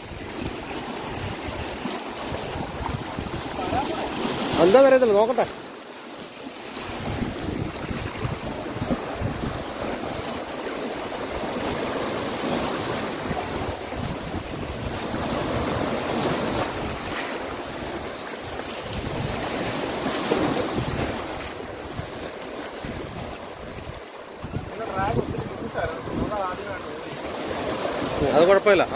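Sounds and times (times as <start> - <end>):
wind buffeting microphone: 0.0 - 4.1, 6.8 - 10.3, 12.7 - 28.4
sea waves breaking on rocks: 0.0 - 28.9.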